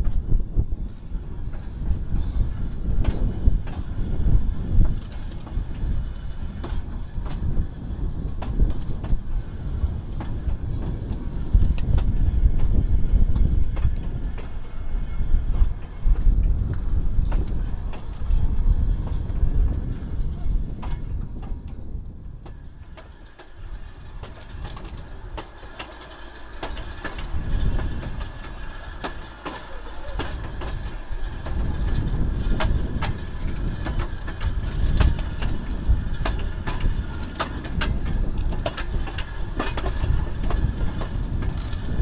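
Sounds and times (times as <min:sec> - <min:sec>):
train rumbling over rail joints: 0:00.0 - 0:42.0.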